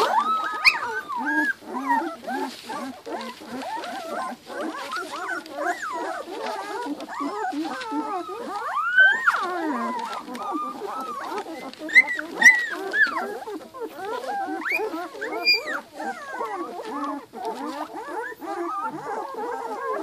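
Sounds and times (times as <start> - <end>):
puppies whining and crying: 0.0 - 20.0.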